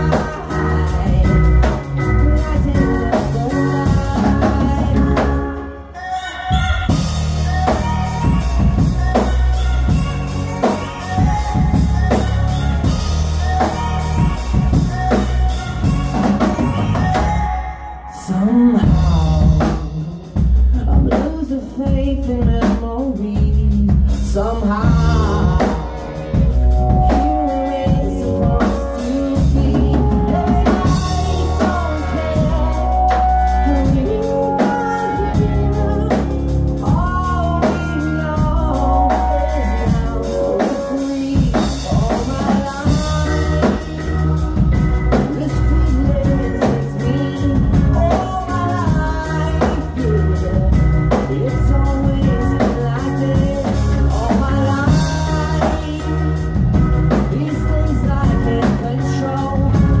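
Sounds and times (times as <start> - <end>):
acoustic and electric guitars: 0.0 - 60.0
drum kit: 0.0 - 60.0
keyboard: 0.0 - 60.0
person singing: 0.0 - 60.0.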